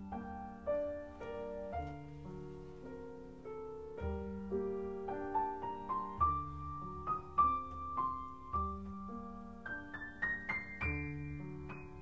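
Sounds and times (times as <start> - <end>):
slow solo piano: 0.0 - 12.0.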